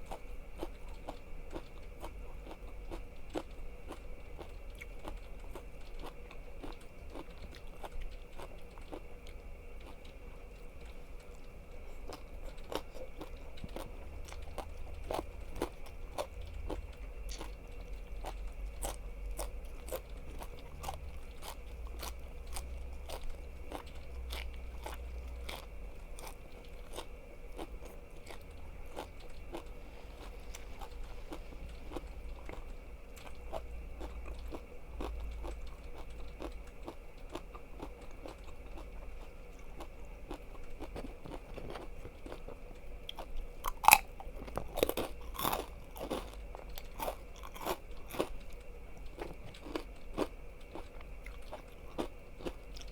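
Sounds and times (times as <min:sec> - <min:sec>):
crunchy food chewing: 0:00.0 - 0:52.9
faint steady hum: 0:00.0 - 0:52.9.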